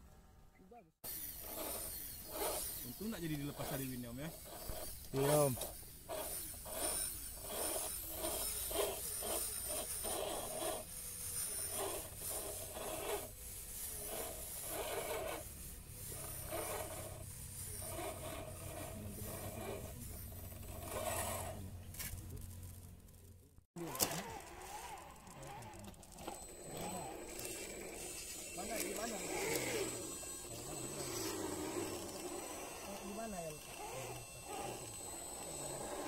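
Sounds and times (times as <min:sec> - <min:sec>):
electric drivetrain whirring: 0:01.0 - 0:36.0
tyres scraping on soil: 0:01.4 - 0:36.0.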